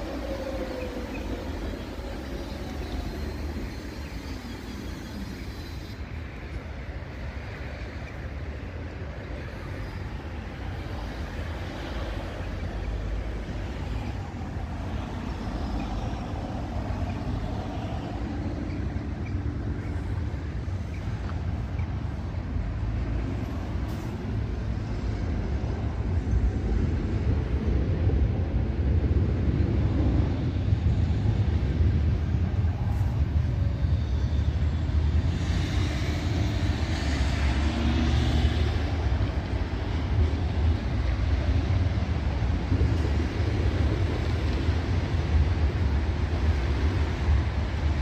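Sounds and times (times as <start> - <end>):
trams and cars passing: 0.0 - 48.0.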